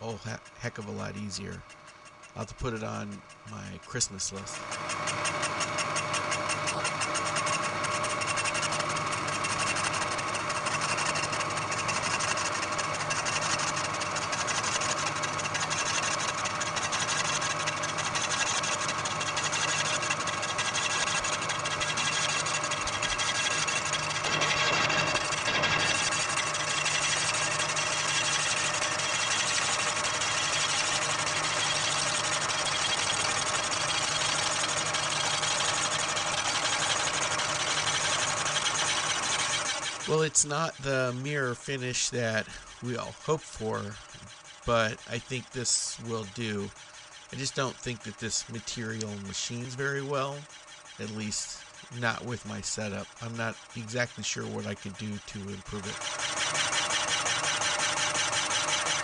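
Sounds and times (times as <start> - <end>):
milling machine rattling: 0.0 - 59.0.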